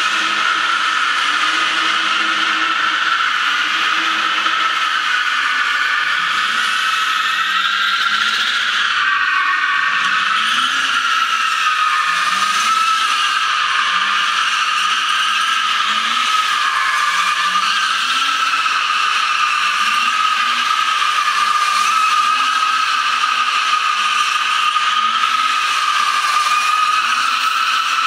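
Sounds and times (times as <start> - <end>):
car engine revving: 0.0 - 8.8, 11.6 - 28.0
tyres squealing on concrete: 0.0 - 28.0.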